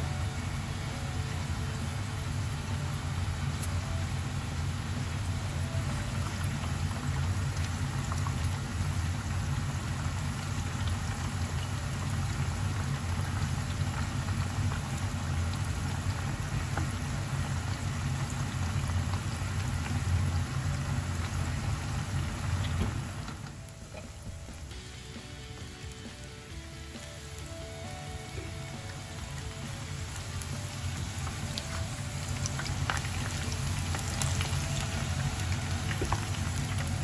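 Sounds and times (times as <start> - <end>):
chicken deep-frying in oil: 0.0 - 37.0.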